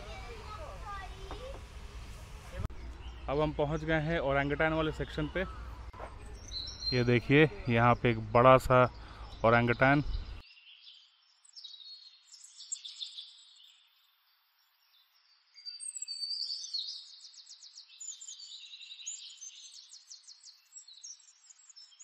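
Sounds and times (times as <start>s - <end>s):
birds chirping and trilling: 2.7s - 22.0s.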